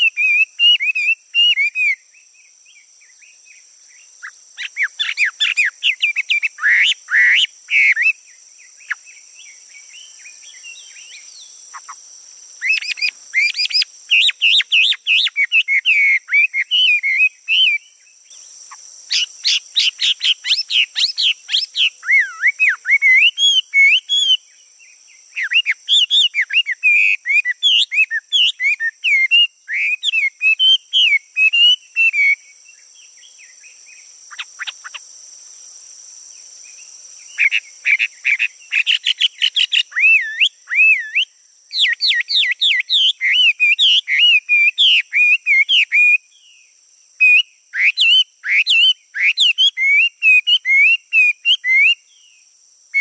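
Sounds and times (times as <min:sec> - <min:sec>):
songbird warbling song: 0:00.0 - 0:35.7, 0:36.3 - 0:53.0.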